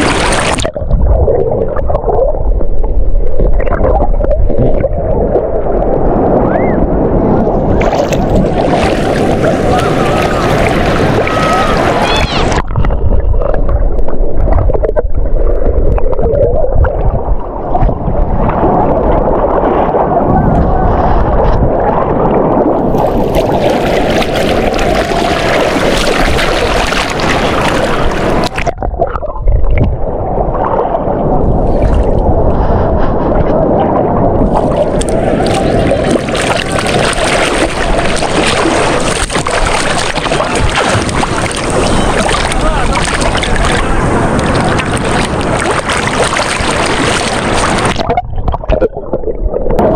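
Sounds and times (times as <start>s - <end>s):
sea: 0.0s - 49.9s
wind rumbling on microphone: 0.0s - 49.9s.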